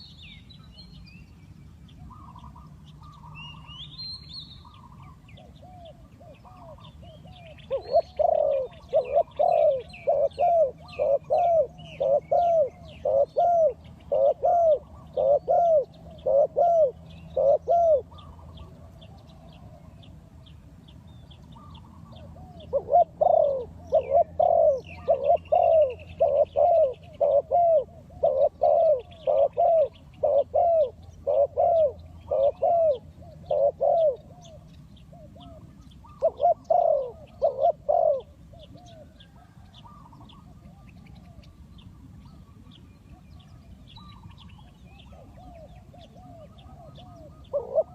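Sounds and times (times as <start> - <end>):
dove cooing: 4.6 - 20.0, 21.4 - 47.9.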